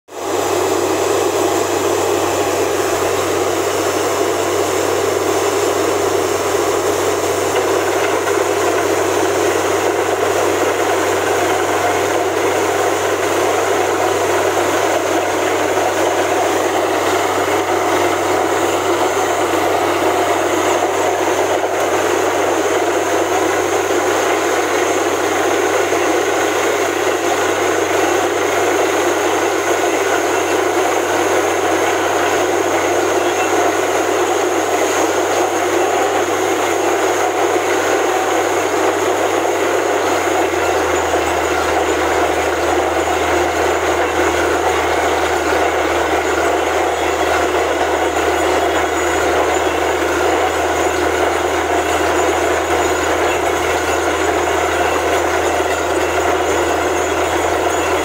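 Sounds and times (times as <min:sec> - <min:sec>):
drilling rig running: 0:00.1 - 0:58.0.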